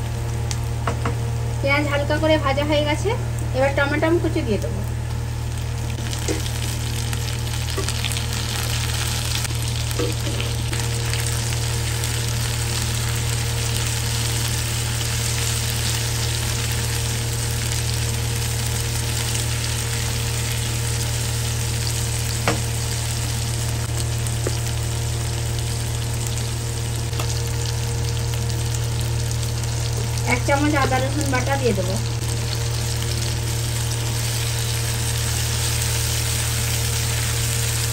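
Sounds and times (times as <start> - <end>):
low hum: 0.0 - 37.9
onions sizzling in oil: 0.0 - 37.9.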